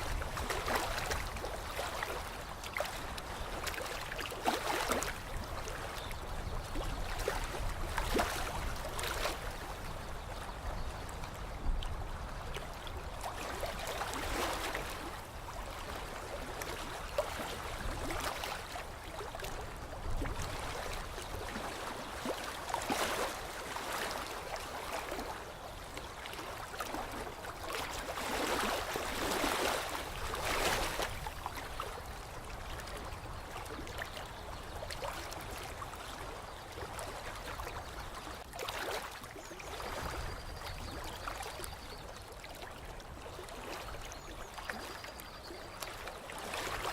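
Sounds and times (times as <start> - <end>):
water lapping and trickling: 0.0 - 46.9.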